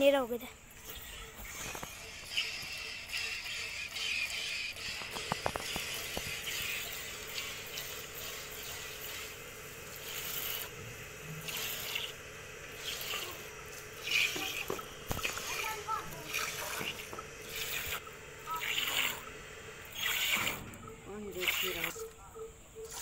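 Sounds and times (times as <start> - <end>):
milk squirting into a steel bucket: 0.8 - 20.7, 21.3 - 22.0.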